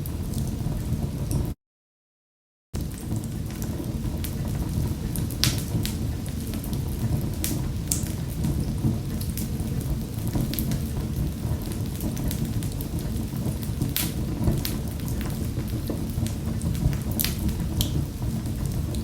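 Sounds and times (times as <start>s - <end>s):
wood fire crackling and popping: 0.0s - 1.5s, 2.8s - 19.0s
low rumble of flames: 0.0s - 1.6s, 2.8s - 19.0s.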